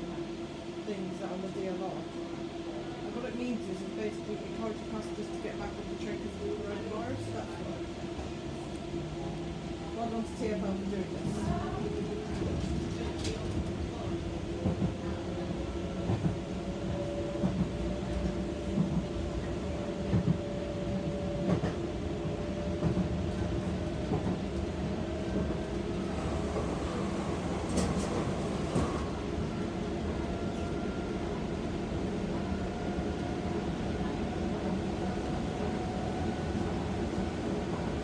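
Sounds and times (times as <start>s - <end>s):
train rumble with rising whine: 0.0s - 38.0s.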